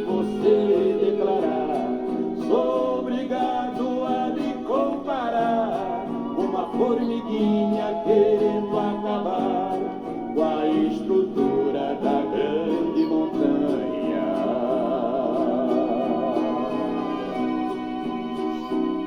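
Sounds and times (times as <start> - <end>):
guitar accompaniment: 0.0 - 19.0
two men singing in harmony: 0.0 - 19.0.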